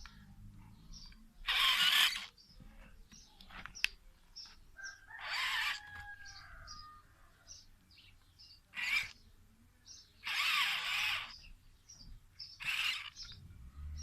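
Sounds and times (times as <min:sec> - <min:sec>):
harsh bird calls: 0:00.0 - 0:14.0
high bird chirps: 0:00.8 - 0:14.0.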